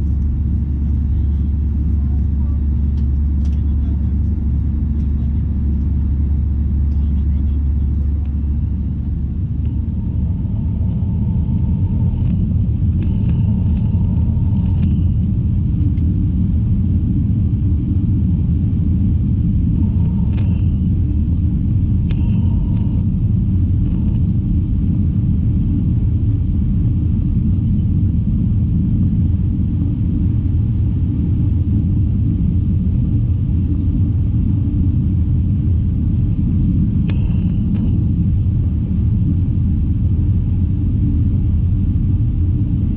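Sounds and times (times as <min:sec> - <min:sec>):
airliner cabin rumble: 0:00.0 - 0:42.9.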